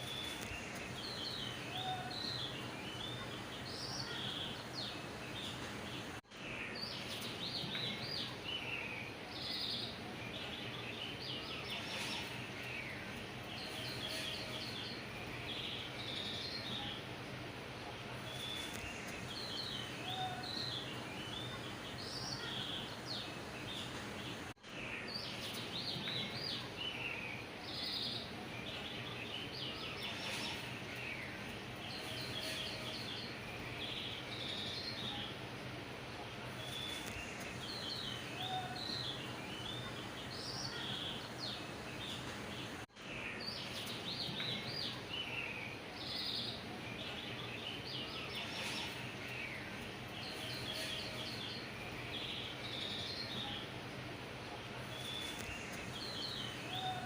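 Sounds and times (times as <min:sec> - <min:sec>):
small birds chirping: 0:00.0 - 0:57.0
steady background hiss: 0:00.0 - 0:57.0.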